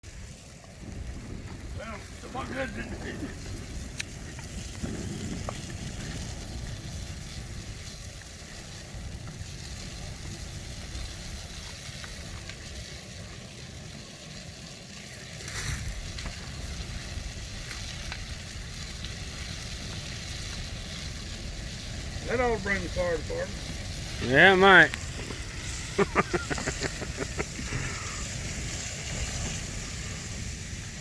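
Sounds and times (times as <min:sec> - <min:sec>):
fire crackling and hissing: 0:00.0 - 0:31.0.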